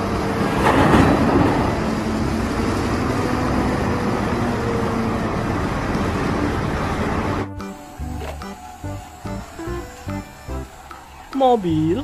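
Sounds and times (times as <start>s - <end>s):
diesel engine under load: 0.0s - 12.0s.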